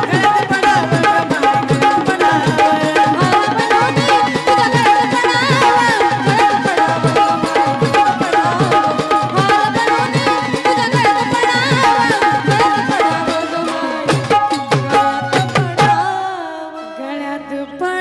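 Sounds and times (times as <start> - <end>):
hand drum fast rhythm: 0.0 - 16.1.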